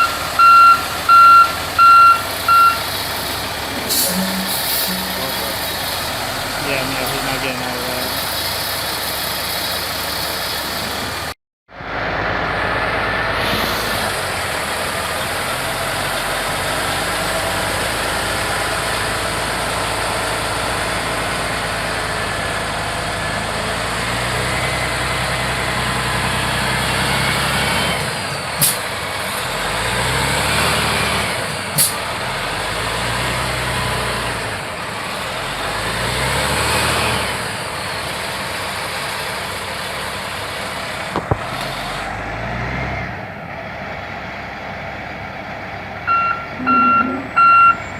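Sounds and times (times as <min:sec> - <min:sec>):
diesel truck engine revving: 0:00.0 - 0:47.9.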